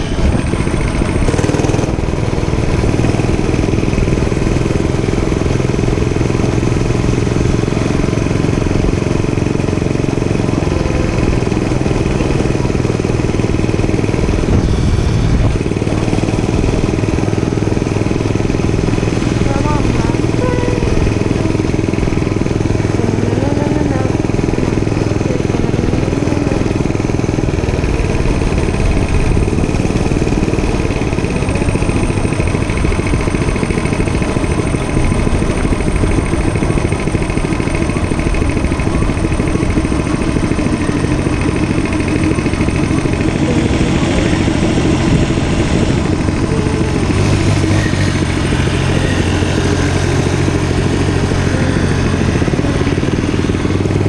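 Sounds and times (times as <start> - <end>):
constant rushing noise: 0.0 - 54.0
dirt bike engine running: 0.0 - 54.0.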